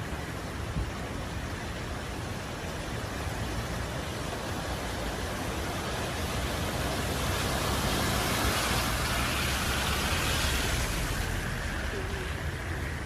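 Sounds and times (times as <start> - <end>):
rushing floodwater: 0.0 - 13.0.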